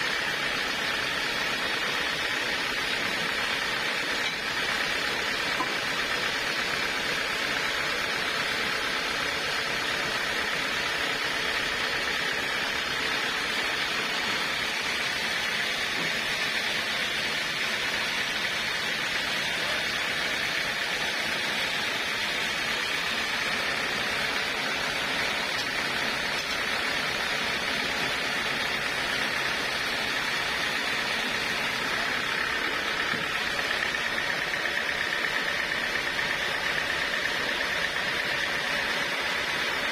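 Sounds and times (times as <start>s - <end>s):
sawmill running: 0.0s - 39.9s.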